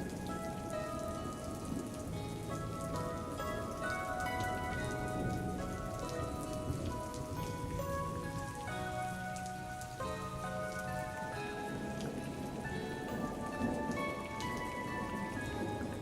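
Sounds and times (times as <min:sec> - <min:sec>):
soft music with held notes: 0:00.0 - 0:16.0
steady rain falling: 0:00.0 - 0:16.0.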